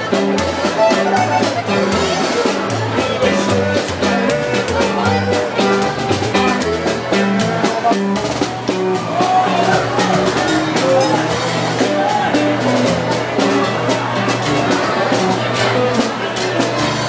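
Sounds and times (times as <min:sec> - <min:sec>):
crowd chatter: 0:00.0 - 0:17.0
loud music with drum beat: 0:00.0 - 0:17.0.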